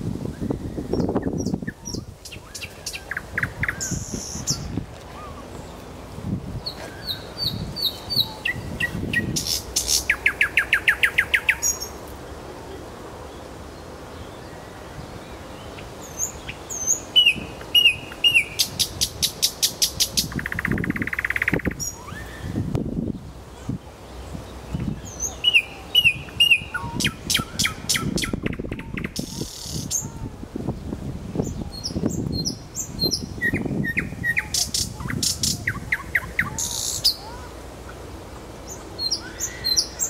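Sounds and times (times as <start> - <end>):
nightingale singing with trills: 0.3 - 5.4, 6.6 - 12.0, 14.2 - 30.2, 30.8 - 37.4, 38.6 - 40.0.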